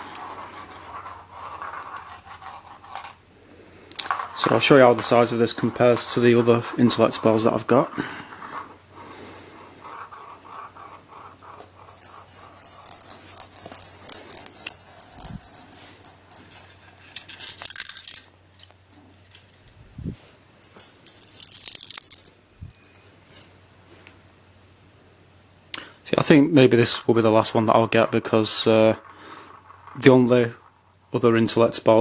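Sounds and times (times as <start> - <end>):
steel balls rattling in plastic: 0.0 - 3.2, 3.9 - 19.8, 20.6 - 23.6, 26.2 - 32.0.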